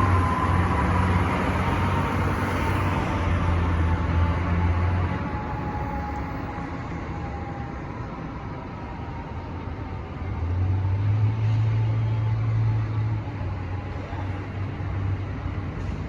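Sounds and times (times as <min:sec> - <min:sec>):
deep steady drone: 0:00.0 - 0:16.0
engine and road noise: 0:00.0 - 0:16.0.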